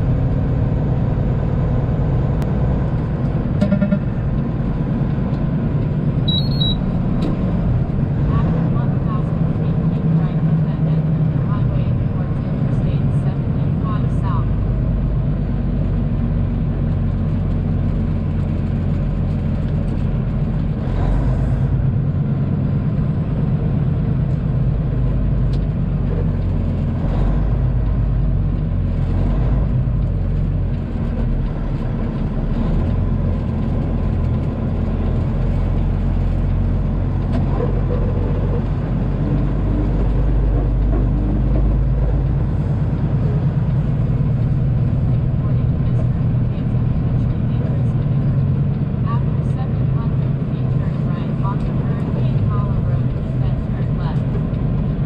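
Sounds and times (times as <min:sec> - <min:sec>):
road noise: 0:00.0 - 0:55.0
truck diesel engine drone: 0:00.0 - 0:55.0.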